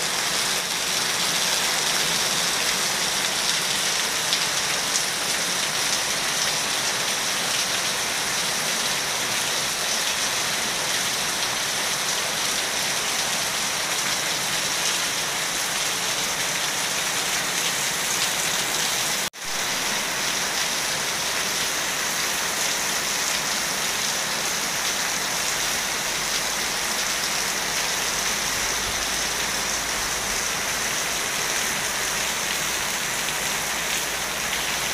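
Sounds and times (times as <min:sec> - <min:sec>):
rain falling on leaves and pool: 0:00.0 - 0:34.9.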